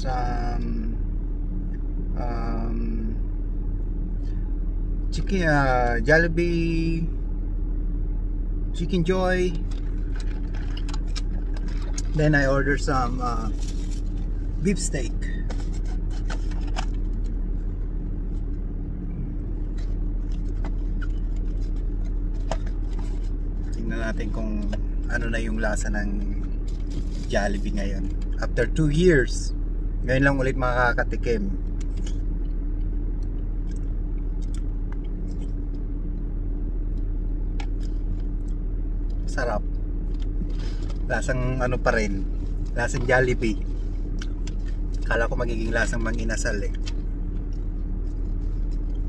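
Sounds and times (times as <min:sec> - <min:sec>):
car idling from inside: 0:00.0 - 0:49.0.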